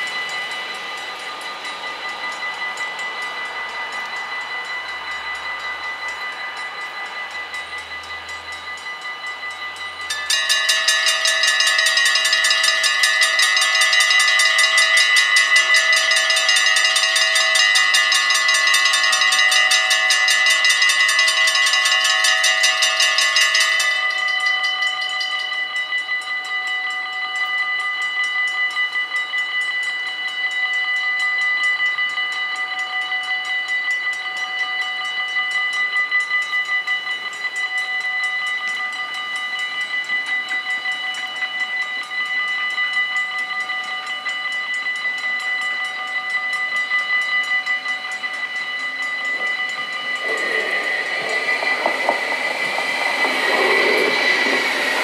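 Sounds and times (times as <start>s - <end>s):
level crossing bells ringing: 0.0s - 55.0s.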